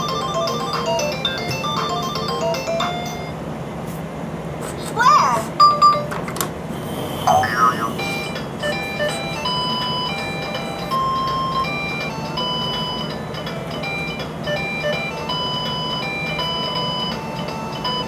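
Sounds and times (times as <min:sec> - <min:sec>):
toy playing beeping electronic tune: 0:00.0 - 0:03.4, 0:05.6 - 0:06.1, 0:07.3 - 0:18.0.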